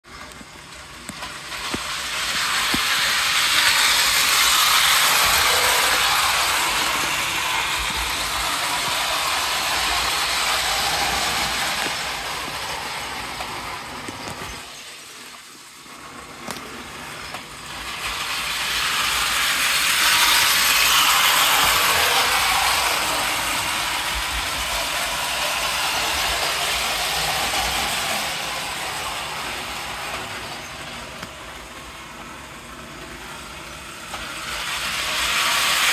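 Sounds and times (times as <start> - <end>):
model train whirring on metal track: 0.0 - 35.9.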